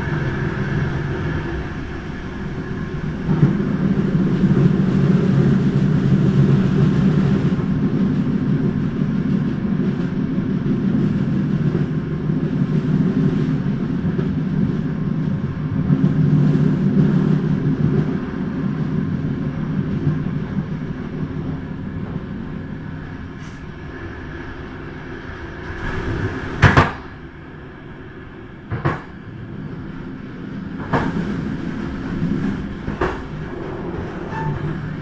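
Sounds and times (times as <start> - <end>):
train rumble and hum: 0.0 - 35.0.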